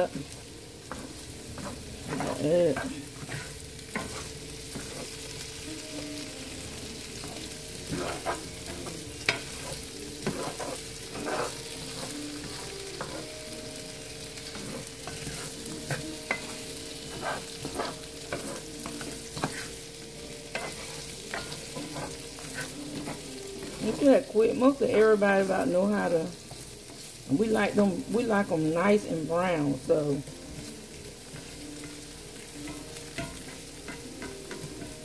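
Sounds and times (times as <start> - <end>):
spatula scraping a pan: 0.0 - 5.6, 6.2 - 35.0
potatoes sizzling in oil: 0.0 - 35.0.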